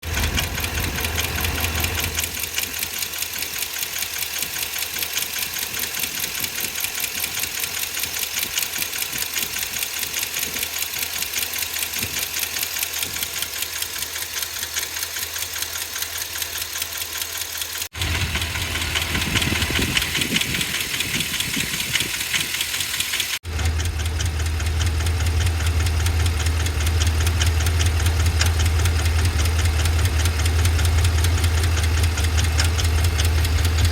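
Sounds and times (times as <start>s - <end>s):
engine ticking and knocking: 0.0s - 33.9s.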